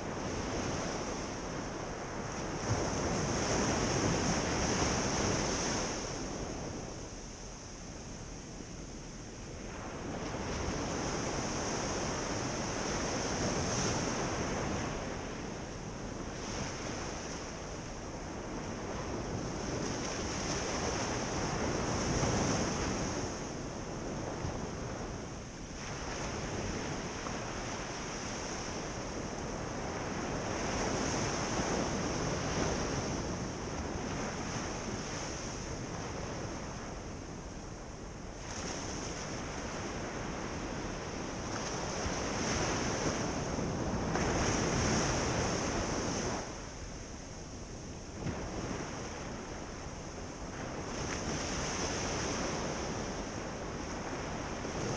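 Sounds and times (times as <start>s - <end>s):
ocean surf breaking on beach: 0.0s - 54.9s.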